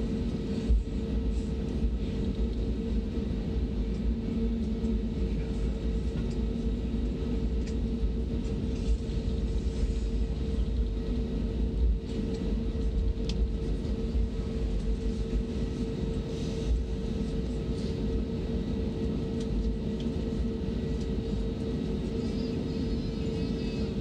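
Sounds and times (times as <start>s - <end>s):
aircraft cabin low rumble: 0.0s - 24.0s
constant mid-pitched hum: 0.0s - 24.0s.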